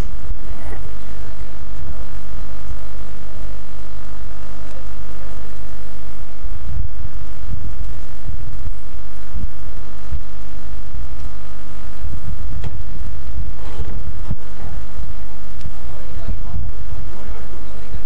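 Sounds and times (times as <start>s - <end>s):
microphone handling rumble and thumps: 0.0s - 18.0s
steady electrical hum: 0.0s - 18.0s.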